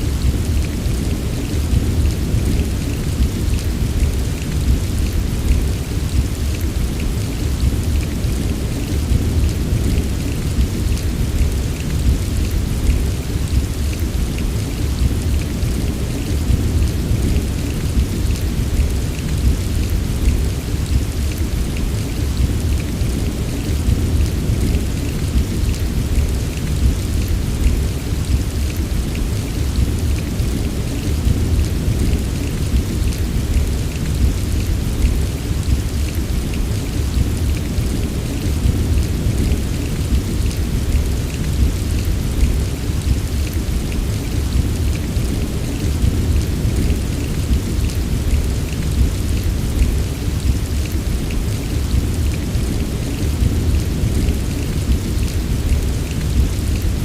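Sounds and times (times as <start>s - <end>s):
deep continuous rumble: 0.0s - 57.0s
heavy rain falling: 0.0s - 57.0s.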